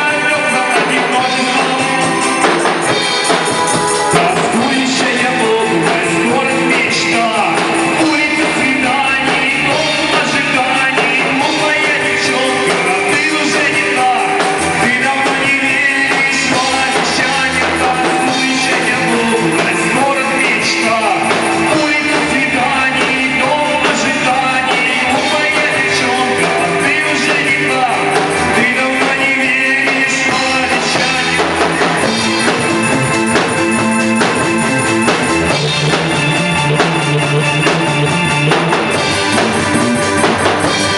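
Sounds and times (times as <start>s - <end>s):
person singing: 0.0s - 40.9s
rock band playing: 0.0s - 40.9s.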